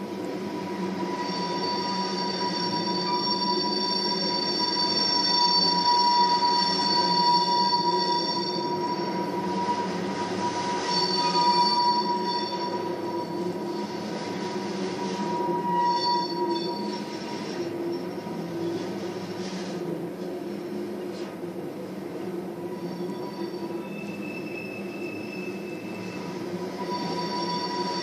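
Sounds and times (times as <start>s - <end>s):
steel wheels squealing: 0.0s - 20.0s, 22.1s - 28.0s.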